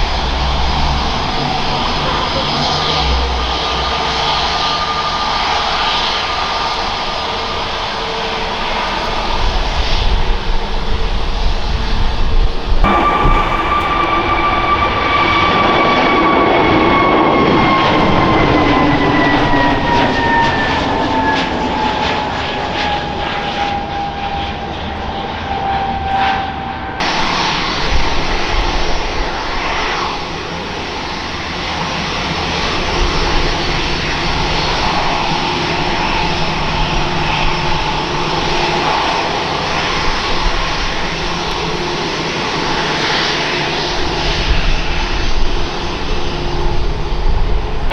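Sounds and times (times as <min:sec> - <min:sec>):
jet engines whining: 0:00.0 - 0:24.0, 0:27.0 - 0:47.1.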